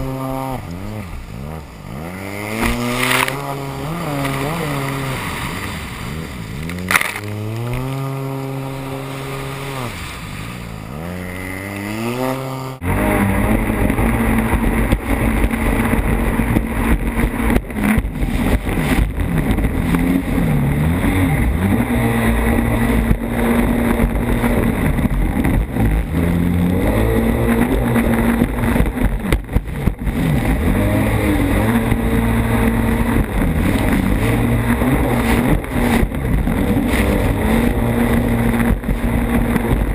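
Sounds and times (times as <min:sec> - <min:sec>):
personal watercraft engine revving: 0:00.0 - 0:39.9
water and wind noise: 0:00.0 - 0:39.9.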